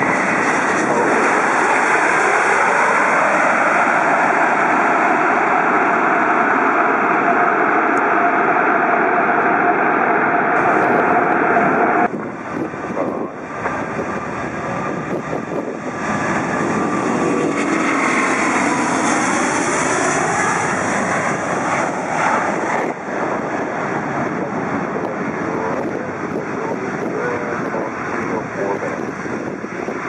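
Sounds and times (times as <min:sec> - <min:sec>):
jet roar at takeoff: 0:00.0 - 0:30.0.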